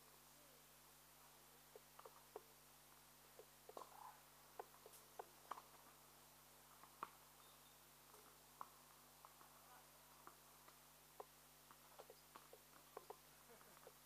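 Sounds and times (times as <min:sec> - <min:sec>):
faint hiss and hum: 0:00.0 - 0:14.0
faint ticks and chirps: 0:00.0 - 0:14.0.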